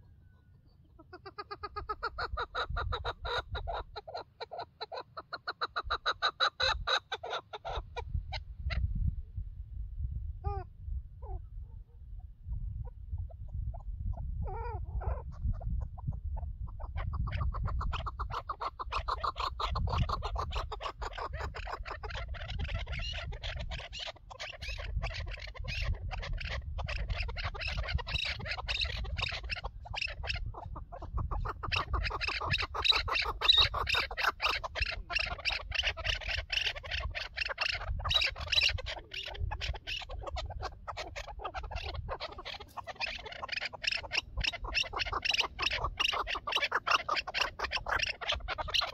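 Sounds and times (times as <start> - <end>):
partridge calling: 0.0 - 8.9, 12.4 - 48.9.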